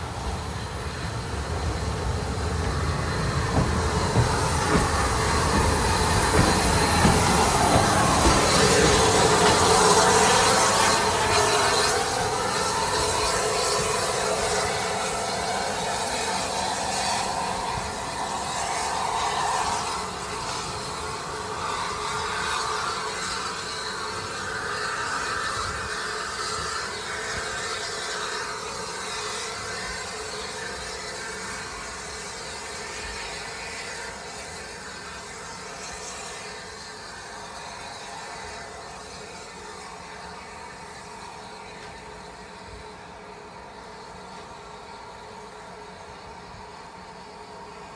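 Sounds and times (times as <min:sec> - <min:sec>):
steam hissing: 0:00.0 - 0:47.9
steam locomotive pulling away: 0:00.0 - 0:47.9.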